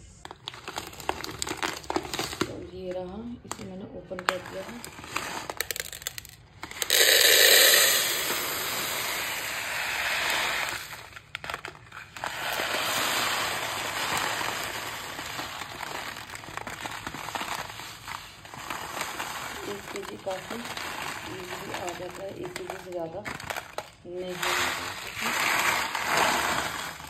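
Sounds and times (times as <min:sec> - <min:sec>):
lentils pouring into plastic container: 0:00.3 - 0:27.0.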